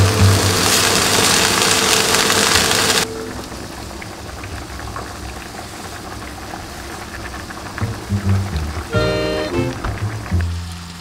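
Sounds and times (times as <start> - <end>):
meat and onion sizzling: 0.0 - 11.0.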